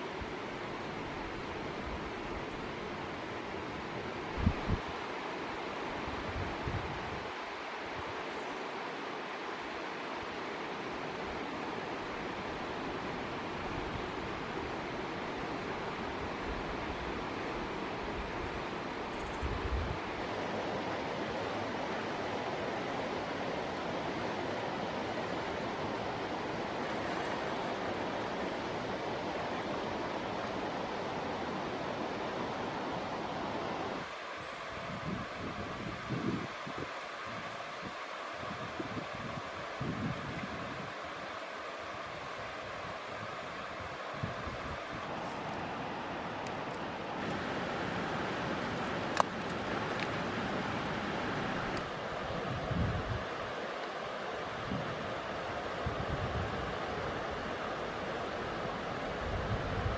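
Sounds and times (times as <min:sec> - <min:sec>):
river water rushing: 0:00.0 - 0:19.2, 0:19.9 - 0:59.9.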